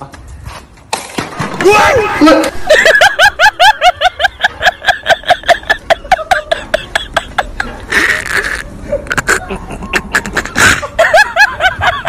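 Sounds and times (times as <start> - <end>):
high-pitched laughter: 2.1 - 12.0.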